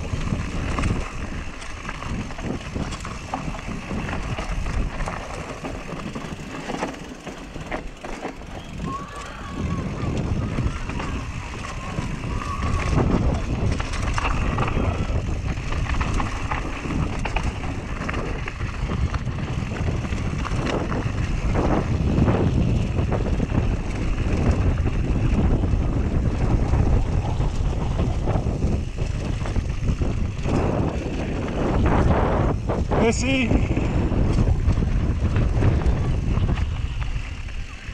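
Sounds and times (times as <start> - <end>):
bike rattling and knocking: 0.0 - 37.9
tyres rolling over dirt: 0.0 - 37.9
wind rush on microphone: 0.0 - 37.9.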